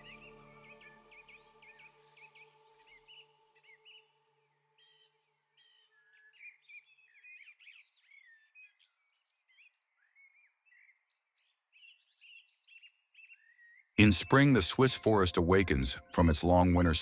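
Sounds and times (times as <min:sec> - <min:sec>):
songbirds chirping and whistling: 0:00.0 - 0:04.2, 0:04.8 - 0:14.6.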